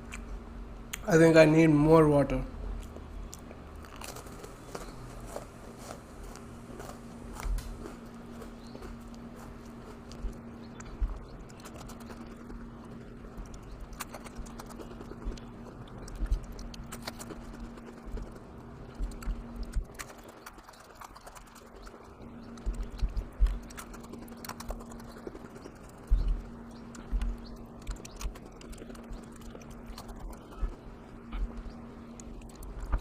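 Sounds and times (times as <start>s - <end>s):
steady low hum: 0.0s - 33.0s
person crunching cookies: 2.7s - 33.0s.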